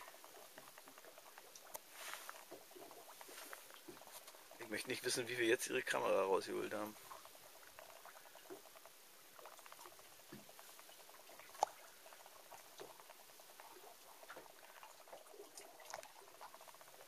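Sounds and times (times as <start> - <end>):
faint pattering ticks: 0.0 - 17.0.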